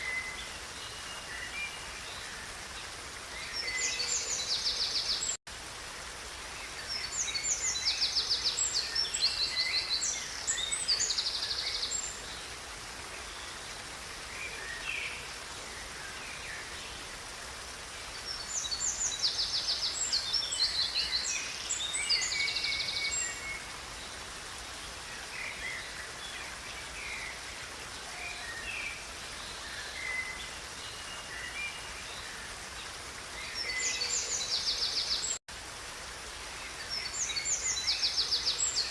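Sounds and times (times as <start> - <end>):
songbirds singing: 0.0 - 5.4, 6.5 - 35.4, 36.5 - 38.9.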